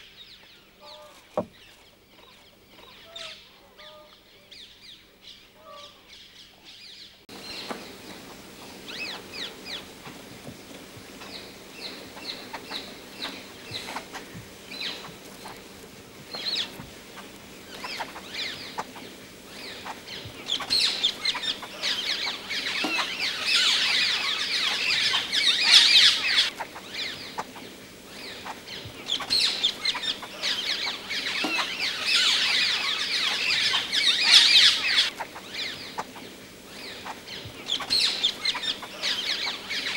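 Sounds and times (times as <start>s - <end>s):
harsh chattering bird calls: 7.3s - 39.9s.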